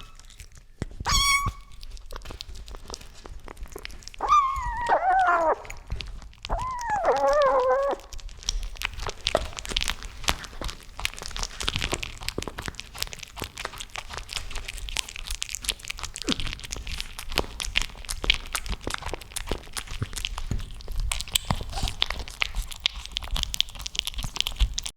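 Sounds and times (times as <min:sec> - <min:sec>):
cat crunching food: 0:00.0 - 0:24.9.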